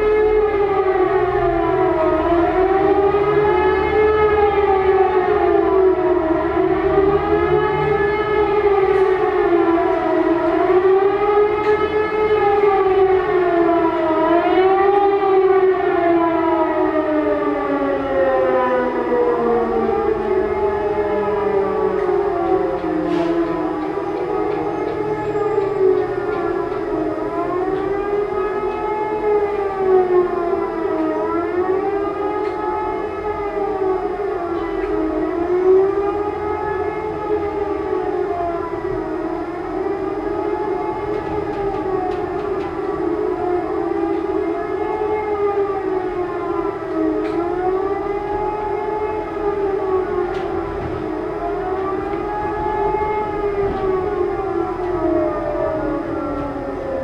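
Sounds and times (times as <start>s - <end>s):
siren wailing: 0.0s - 57.0s.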